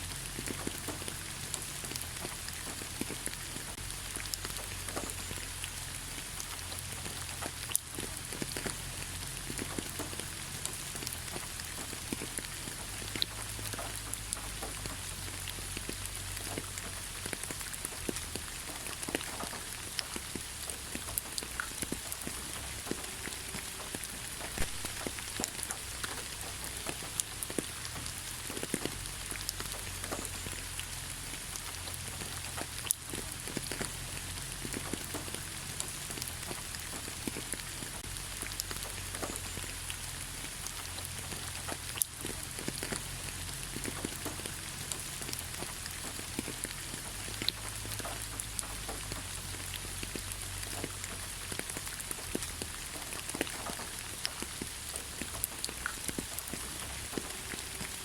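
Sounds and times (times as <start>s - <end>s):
light rain on leaves: 0.0s - 58.0s
raindrops ticking: 0.0s - 58.0s.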